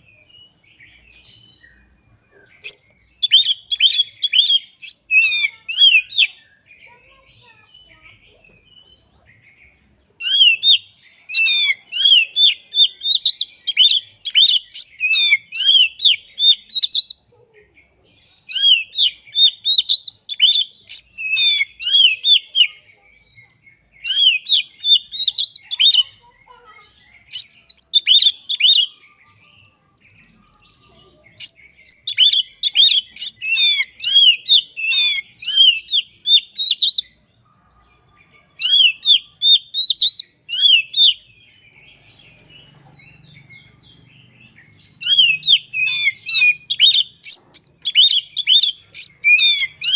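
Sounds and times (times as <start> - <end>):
magpie-robin singing: 0.0 - 49.9.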